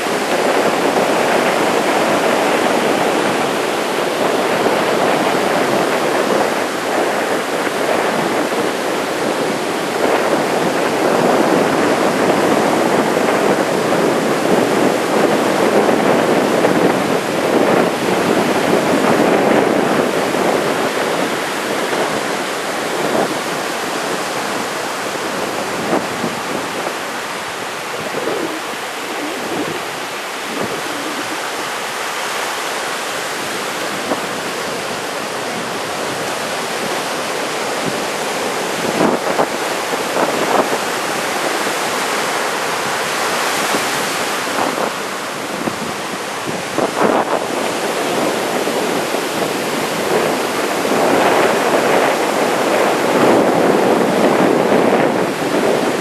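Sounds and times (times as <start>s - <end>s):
surf breaking on beach: 0.0s - 56.0s.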